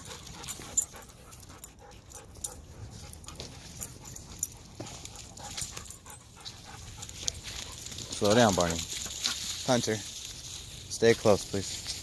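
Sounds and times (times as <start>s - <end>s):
dogs panting: 0.0s - 10.5s.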